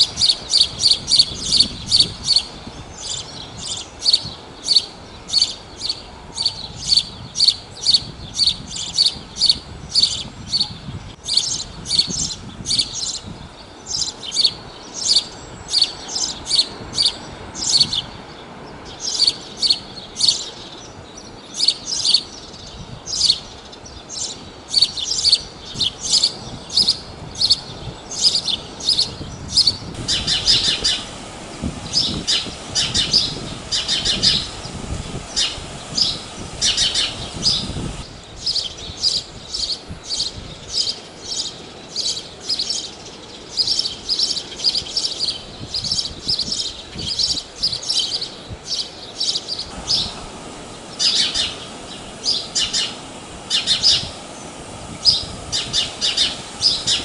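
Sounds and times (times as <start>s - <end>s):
sparrow chirping: 0.0s - 50.3s, 50.9s - 57.0s.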